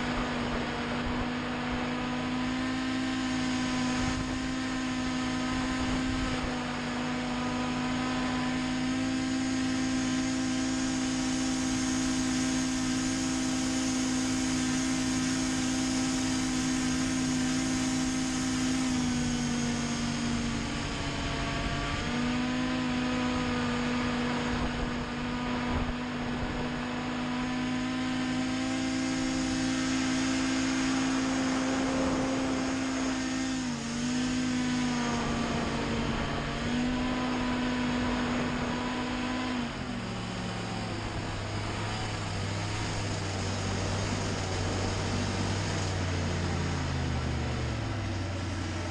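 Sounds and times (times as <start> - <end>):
hovercraft engine and fan running: 0.0 - 48.9.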